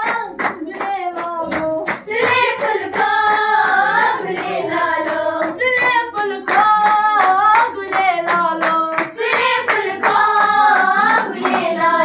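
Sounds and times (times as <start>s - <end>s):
girls singing together: 0.0s - 12.0s
hands clapping rhythm: 0.0s - 12.0s.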